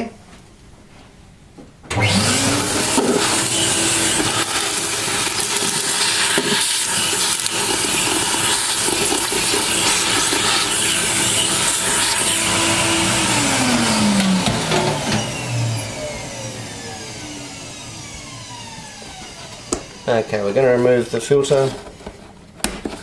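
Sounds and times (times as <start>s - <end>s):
vacuum cleaner motor whine: 1.9s - 22.4s.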